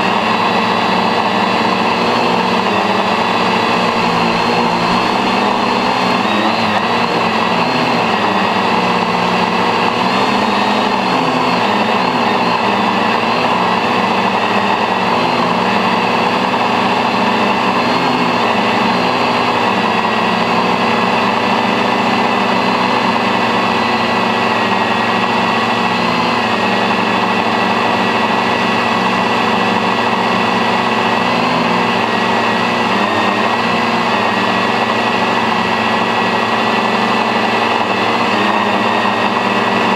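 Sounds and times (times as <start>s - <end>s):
drone rotors whining: 0.0s - 39.9s.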